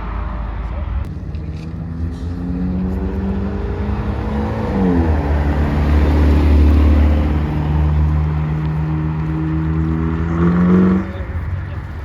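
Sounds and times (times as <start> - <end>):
car engine under load: 0.0 - 12.0.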